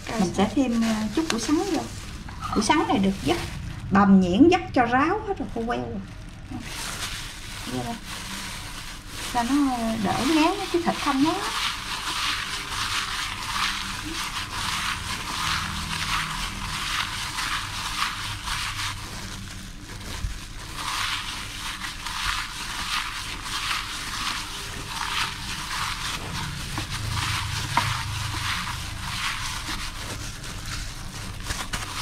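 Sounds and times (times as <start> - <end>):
wet squelching of kneaded meat: 0.0 - 4.2, 4.8 - 32.0
plastic glove crinkling: 0.0 - 32.0.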